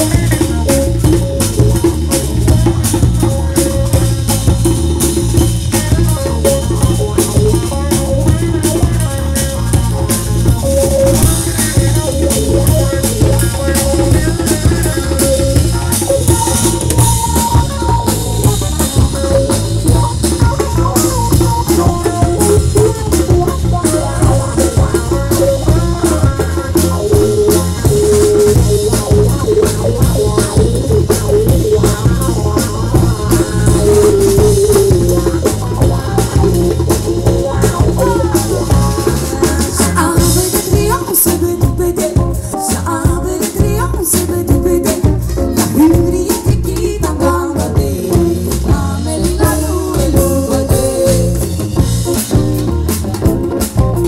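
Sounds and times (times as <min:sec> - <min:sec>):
drum kit beat: 0:00.0 - 0:54.0
electric bass: 0:00.0 - 0:54.0
electric guitar: 0:00.0 - 0:54.0.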